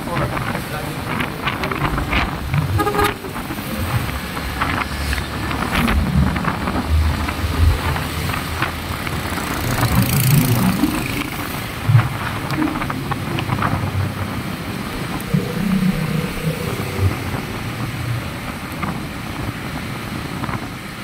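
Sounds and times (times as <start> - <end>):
wind and tyre noise: 0.0 - 21.0
wind buffeting microphone: 0.0 - 21.0
motorcycle engine speeding up: 2.5 - 19.5.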